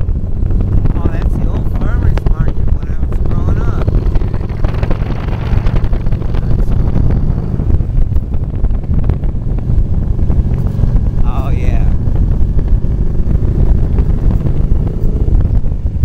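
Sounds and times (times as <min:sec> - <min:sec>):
motorcycle engine rumbling: 0:00.0 - 0:16.0
wind buffeting microphone: 0:00.0 - 0:16.0.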